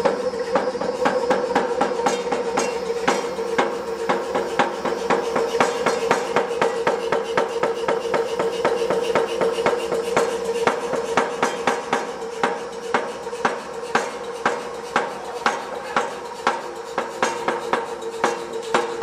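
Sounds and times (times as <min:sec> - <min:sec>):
steady percussive beat: 0:01.1 - 0:19.0.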